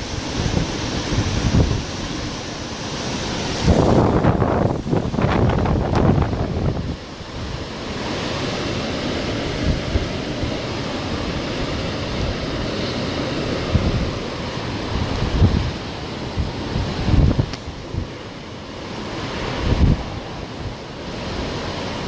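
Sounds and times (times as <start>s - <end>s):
strong wind rushing: 0.0s - 18.2s, 18.8s - 22.0s
wind buffeting microphone: 0.0s - 22.0s.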